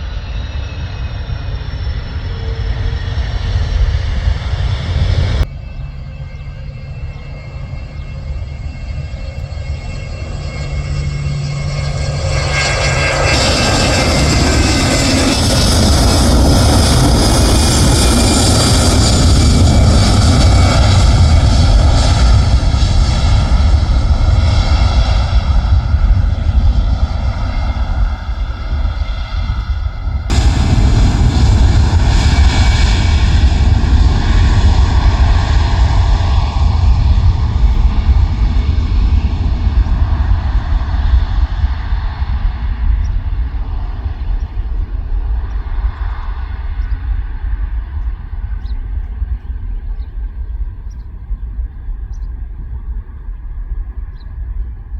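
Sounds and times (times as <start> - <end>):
airliner engines roaring: 0.0 - 54.9.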